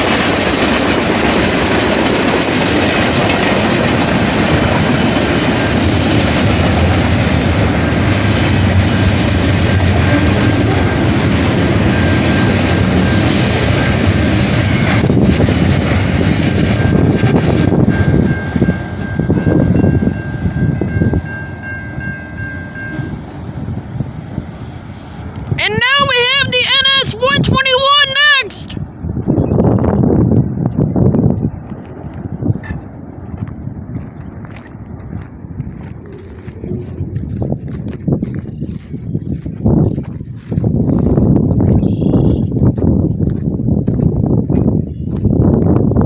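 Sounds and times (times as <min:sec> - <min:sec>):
train rumbling and clacking: 0:00.0 - 0:46.0.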